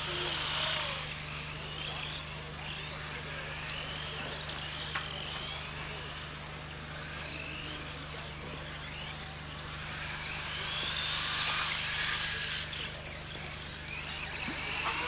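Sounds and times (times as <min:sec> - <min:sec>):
model car motor whining: 0:00.0 - 0:15.0
steady low hum: 0:00.0 - 0:15.0.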